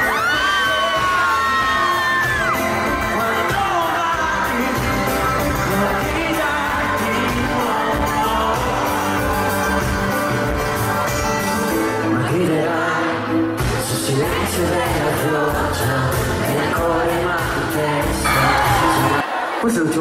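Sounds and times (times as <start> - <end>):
person singing: 0.0 - 10.3, 11.9 - 19.2
live pop band playing: 0.0 - 19.2.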